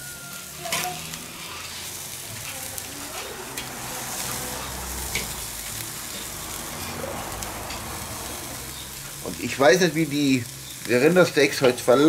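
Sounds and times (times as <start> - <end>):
meat sizzling on charcoal grill: 0.0 - 12.0.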